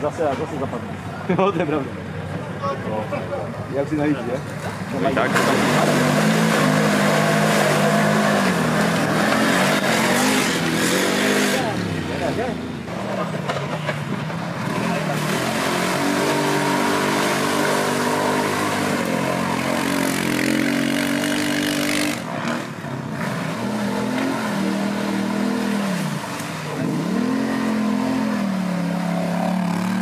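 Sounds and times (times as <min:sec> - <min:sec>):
quad bike engine revving: 0:04.7 - 0:30.0.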